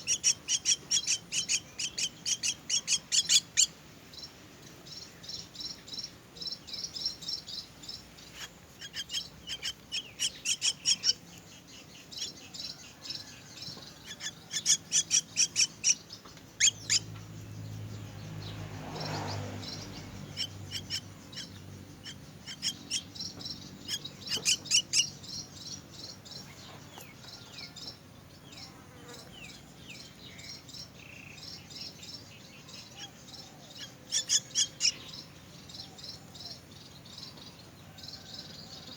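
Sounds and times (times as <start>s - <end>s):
nestlings begging chirps: 0.0s - 38.9s.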